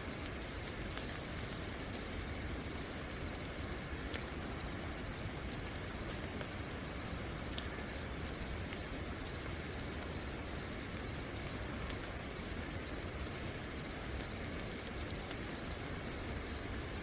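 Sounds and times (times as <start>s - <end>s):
crickets chirping: 0.0s - 17.0s
sharp drip ticks: 0.0s - 17.0s
steady rain falling: 0.0s - 17.0s.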